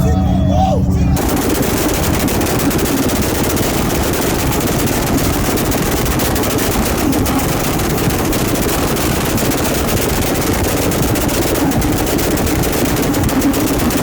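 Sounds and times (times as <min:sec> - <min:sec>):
car exhaust popping and banging: 0:01.2 - 0:14.0.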